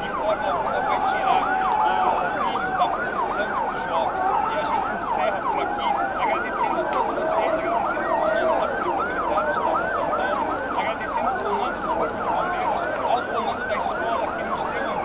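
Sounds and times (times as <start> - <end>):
emergency sirens yelping: 0.0 - 15.0.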